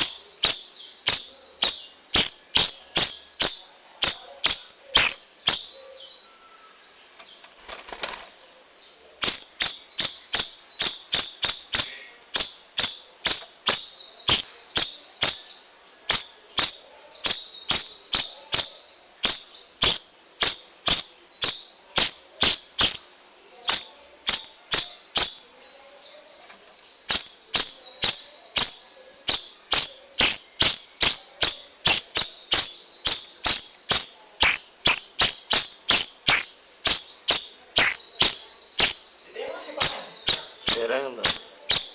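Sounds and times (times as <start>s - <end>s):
bulbul chirping: 0.0s - 6.2s, 9.2s - 25.6s, 26.7s - 41.9s.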